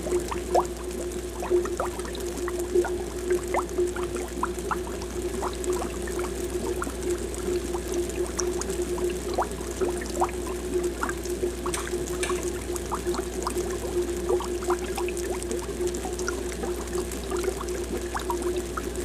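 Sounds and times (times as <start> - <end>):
air bubbles popping in water: 0.0 - 19.0
steady hum: 0.0 - 19.0.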